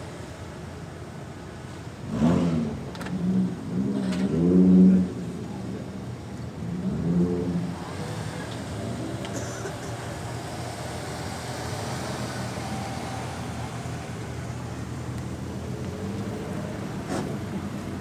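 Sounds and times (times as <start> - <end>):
cars creeping past: 0.0 - 18.0.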